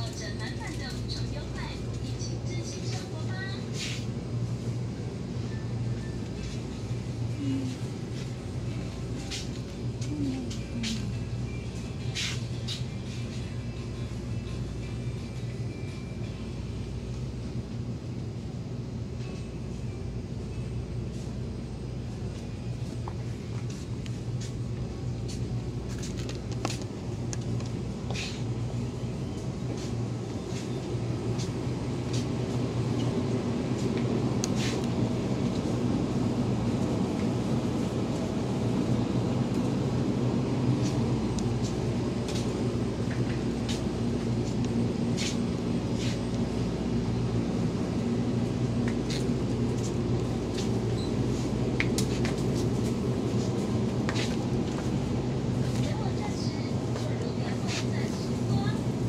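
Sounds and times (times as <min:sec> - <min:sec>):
refrigeration and ventilation hum: 0:00.0 - 0:59.0.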